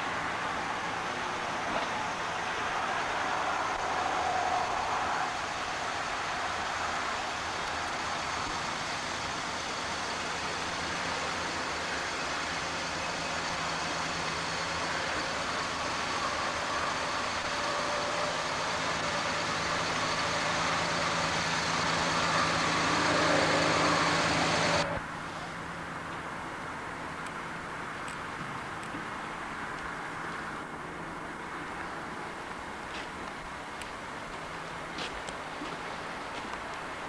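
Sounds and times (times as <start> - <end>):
heavy engine running: 0.0 - 37.0.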